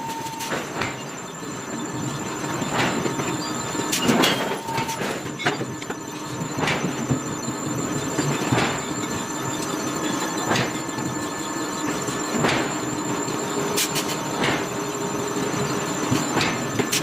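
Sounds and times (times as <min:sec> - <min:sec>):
forging machinery running: 0:00.0 - 0:17.0.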